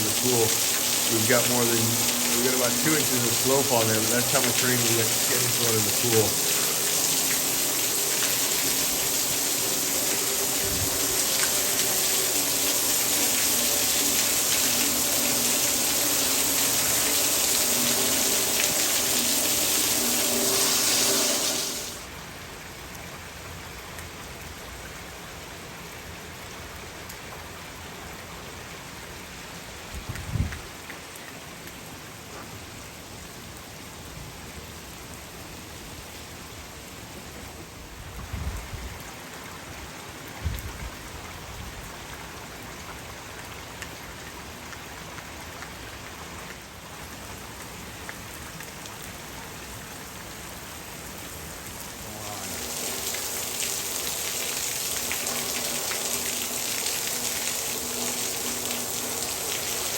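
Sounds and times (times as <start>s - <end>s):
torrential rain hissing: 0.0s - 22.7s, 28.0s - 59.9s.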